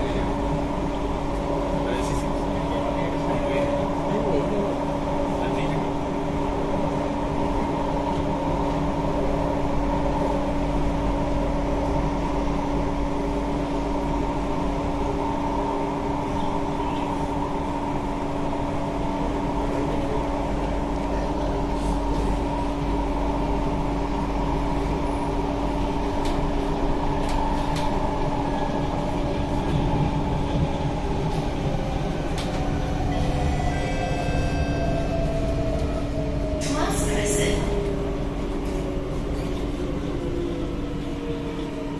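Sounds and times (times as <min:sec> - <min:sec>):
train rolling hum: 0:00.0 - 0:41.9.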